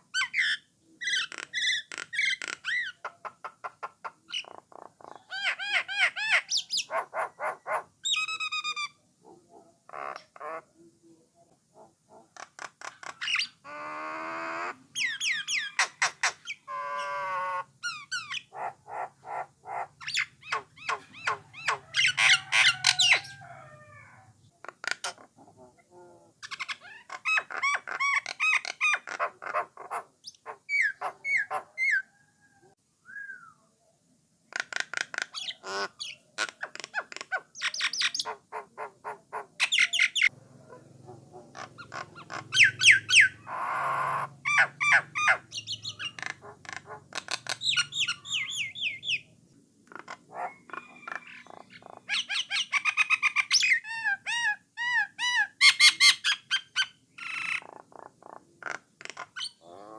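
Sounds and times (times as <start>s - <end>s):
starling singing: 0.2s - 9.0s, 11.8s - 25.2s, 26.4s - 32.2s, 35.0s - 58.4s.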